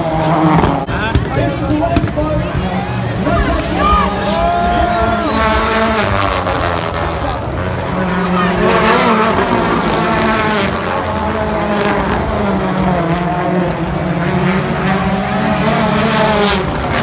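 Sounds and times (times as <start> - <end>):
race cars revving past: 0.0 - 17.0.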